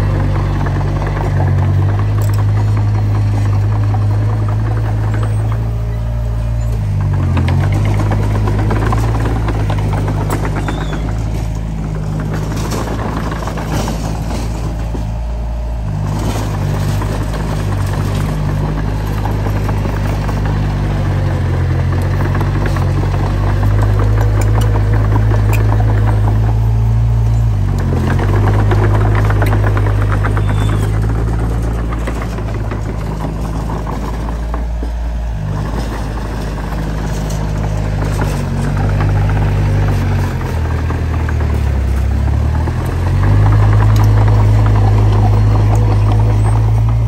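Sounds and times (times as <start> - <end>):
bulldozer diesel engine running: 0.0 - 47.0
metallic clatter: 0.6 - 47.0.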